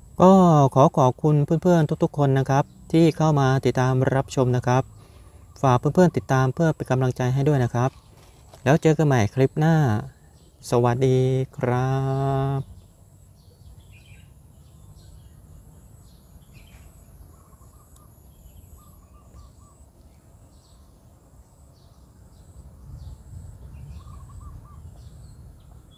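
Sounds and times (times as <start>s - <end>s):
small birds chirping and trilling: 0.0s - 25.9s.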